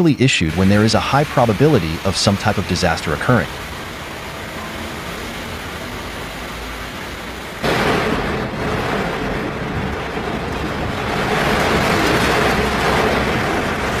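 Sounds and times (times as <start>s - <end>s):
heavy rain on car roof: 0.4s - 14.0s.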